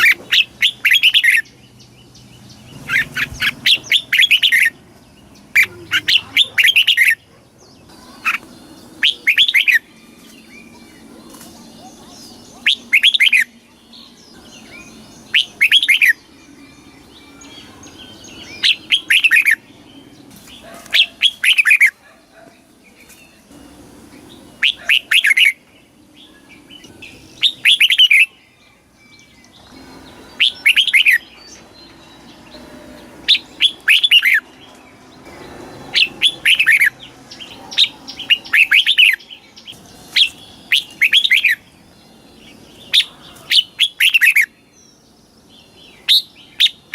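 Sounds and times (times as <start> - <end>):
bulbul singing: 0.0 - 46.9.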